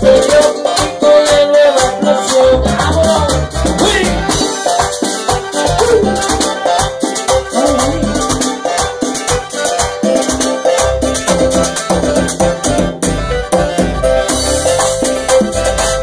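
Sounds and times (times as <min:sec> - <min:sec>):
live latin band music: 0:00.0 - 0:16.0
shaker percussion rhythm: 0:00.0 - 0:16.0.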